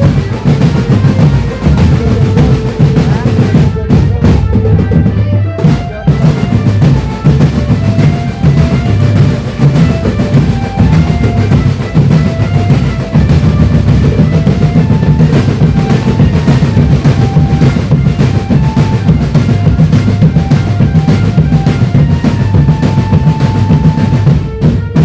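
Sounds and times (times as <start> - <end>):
marching drum band playing: 0.0 - 25.0.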